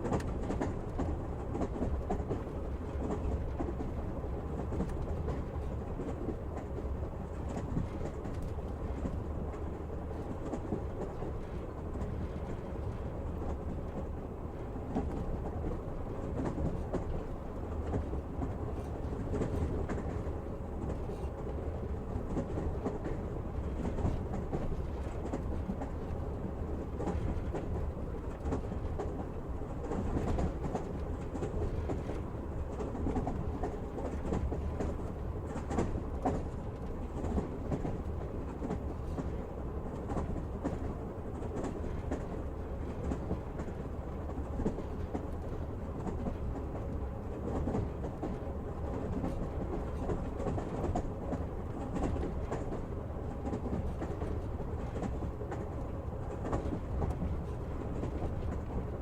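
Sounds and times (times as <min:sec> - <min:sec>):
moving train rumble: 0:00.0 - 0:59.0.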